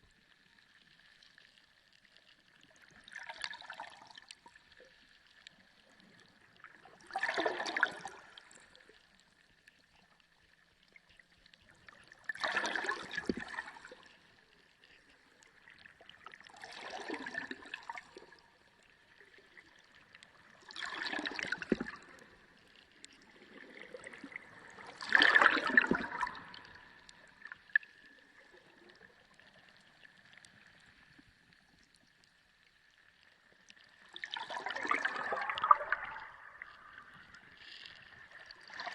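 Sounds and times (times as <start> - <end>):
water gurgling and sloshing: 0.0 - 38.9.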